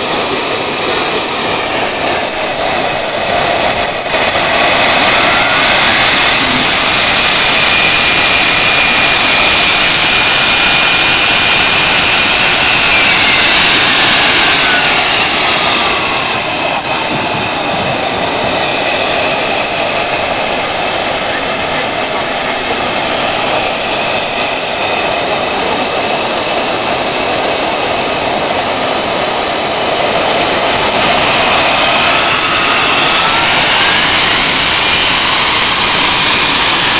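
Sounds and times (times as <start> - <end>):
jet turbine engine whining: 0.0 - 36.9.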